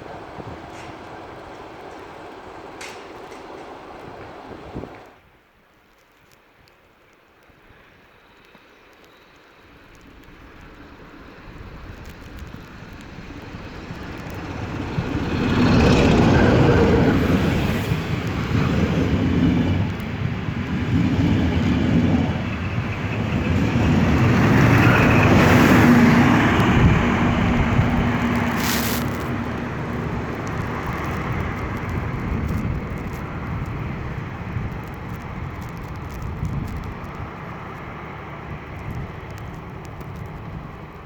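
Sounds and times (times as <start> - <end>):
train passing with dense rumble: 0.0 - 5.8, 6.5 - 41.0.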